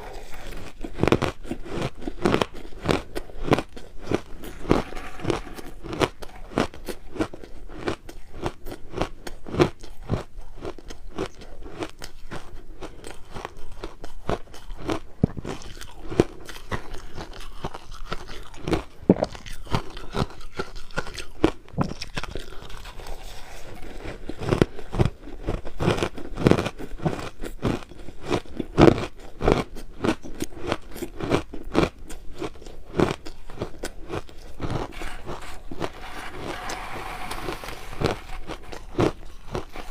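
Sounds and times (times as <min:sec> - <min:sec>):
crunching crushed ice: 0:00.0 - 0:39.9.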